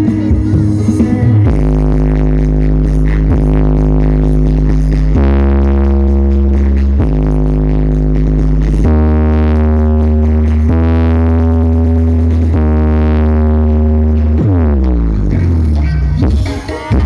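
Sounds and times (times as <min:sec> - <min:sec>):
loud electronic music with heavy bass: 0:00.0 - 0:17.0.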